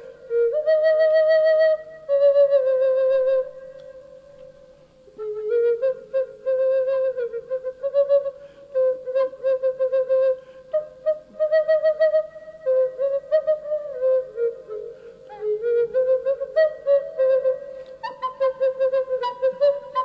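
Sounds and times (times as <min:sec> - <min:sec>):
flute melody: 0:00.0 - 0:20.0.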